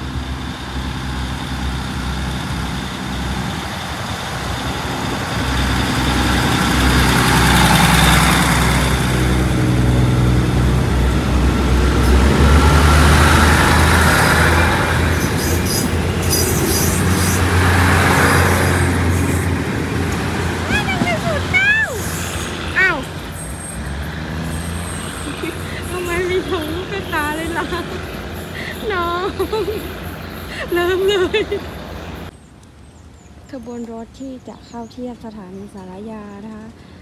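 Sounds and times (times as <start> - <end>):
diesel train engines running: 0.0 - 37.0.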